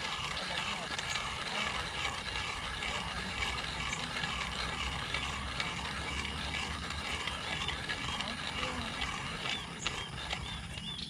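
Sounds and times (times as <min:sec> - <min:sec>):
hand coffee grinder crunching: 0:00.0 - 0:11.0.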